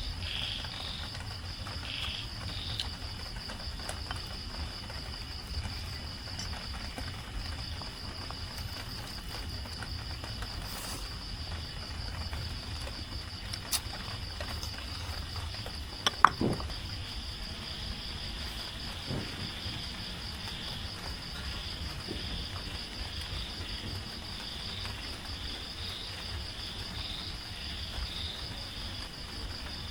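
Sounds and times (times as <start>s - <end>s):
crickets chirping: 0.0s - 29.9s.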